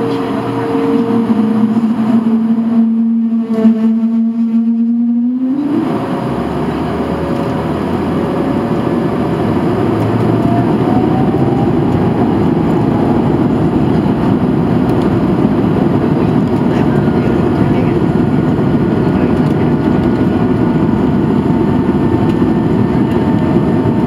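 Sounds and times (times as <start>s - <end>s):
faint engine whine: 0.0s - 24.0s
jet engines roaring for takeoff: 0.0s - 24.0s.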